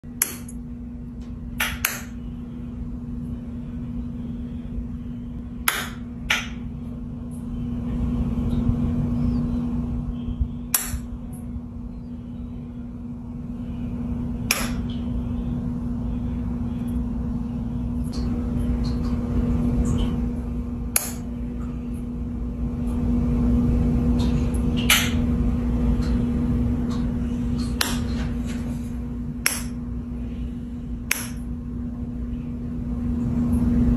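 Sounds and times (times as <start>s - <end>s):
aquarium equipment hum: 0.0s - 33.9s.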